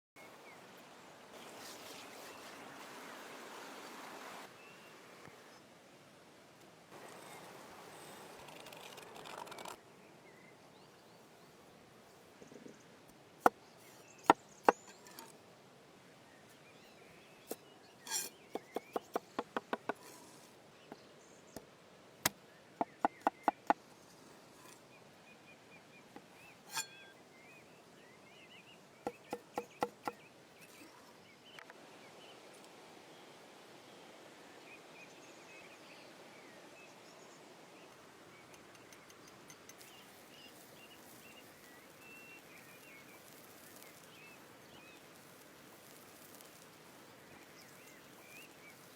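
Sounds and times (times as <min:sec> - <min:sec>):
faint outdoor background: 0:00.0 - 0:48.9.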